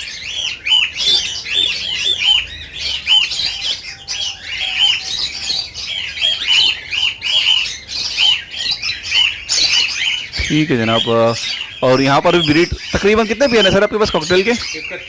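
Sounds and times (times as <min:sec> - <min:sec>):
cockatiels calling: 0:00.0 - 0:15.0.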